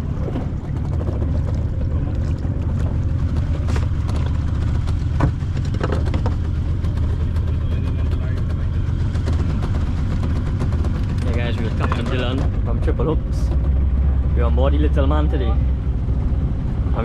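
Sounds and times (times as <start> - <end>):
boat engine rumbling: 0.0 - 17.0
water and wind noise: 0.0 - 17.0.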